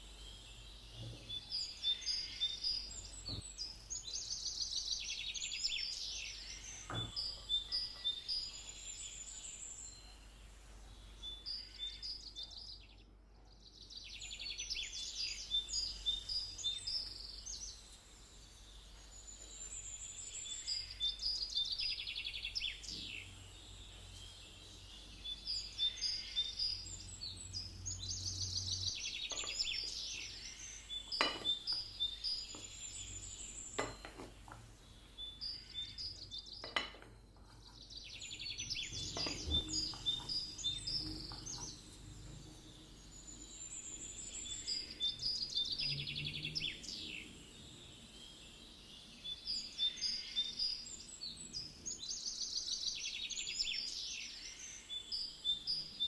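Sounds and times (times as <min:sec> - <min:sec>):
birds chirping and trilling: 0:00.0 - 0:56.0
faint steady hum: 0:00.0 - 0:56.0.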